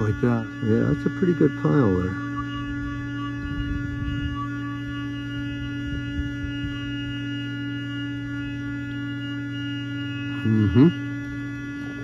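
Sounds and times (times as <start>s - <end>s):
vibration motor buzzing: 0.0s - 12.0s.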